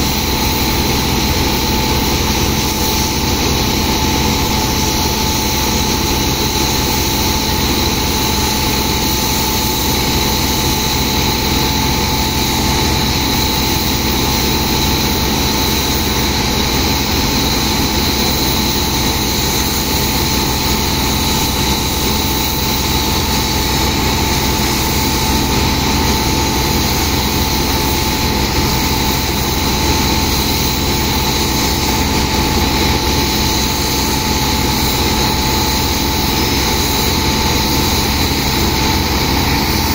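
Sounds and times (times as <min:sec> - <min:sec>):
sand pump engine droning: 0:00.0 - 0:39.9.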